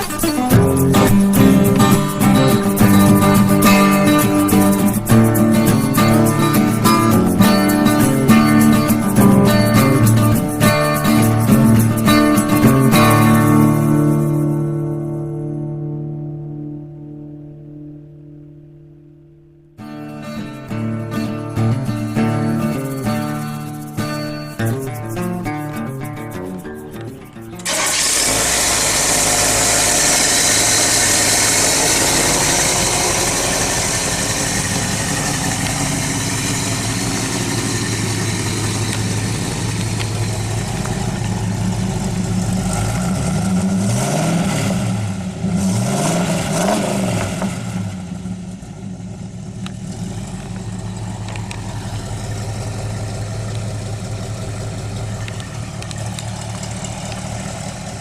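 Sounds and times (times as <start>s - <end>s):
car engine idling and revving: 0.0s - 15.4s, 16.2s - 58.0s.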